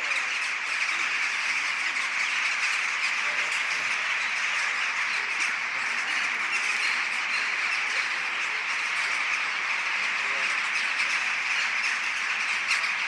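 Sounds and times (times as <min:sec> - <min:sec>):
flock of birds squawking: 0:00.0 - 0:13.0.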